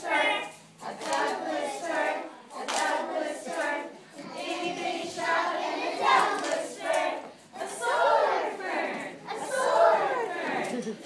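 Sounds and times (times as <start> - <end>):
children singing: 0.0 - 10.7.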